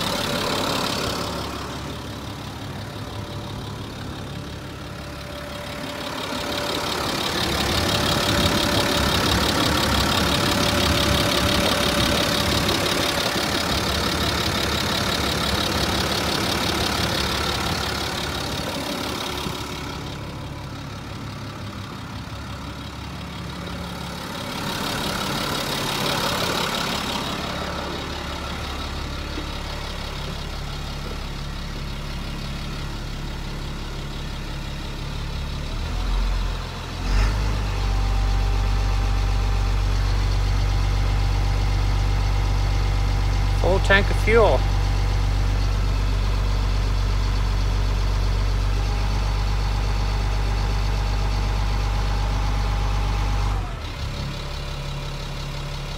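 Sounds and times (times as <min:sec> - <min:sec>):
bus diesel engine idling: 0:00.0 - 0:55.9.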